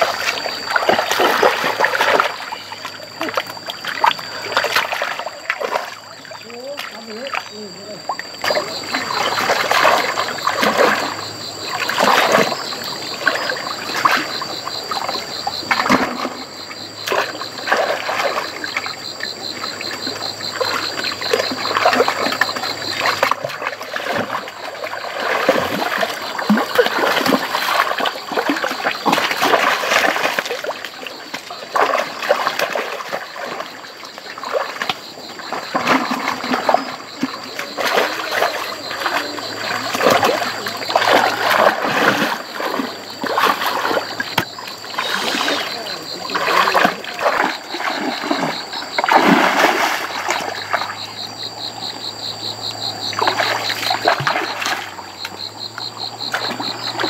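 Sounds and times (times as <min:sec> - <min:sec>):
splashing in shallow water: 0:00.0 - 0:57.0.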